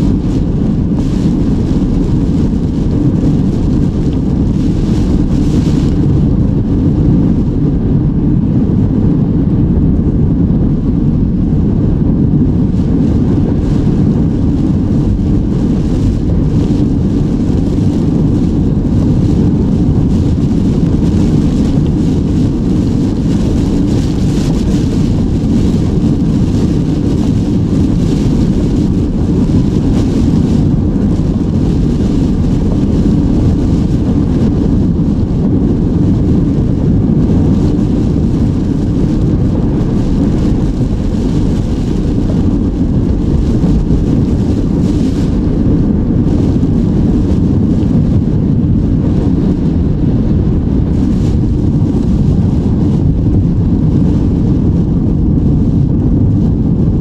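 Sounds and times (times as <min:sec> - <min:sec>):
car driving on wet road: 0:00.0 - 0:54.2.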